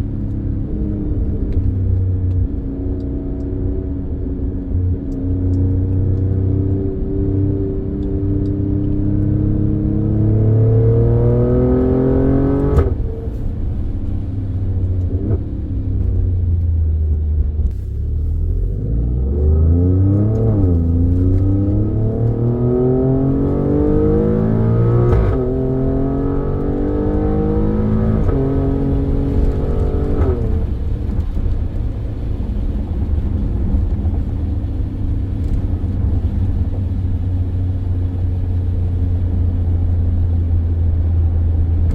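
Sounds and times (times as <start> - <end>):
car engine accelerating through gears: 0.0 - 41.9.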